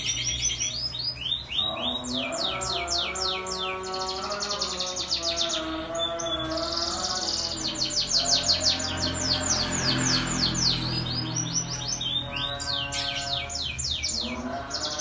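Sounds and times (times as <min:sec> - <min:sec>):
canary singing rapid trills: 0:00.0 - 0:15.0.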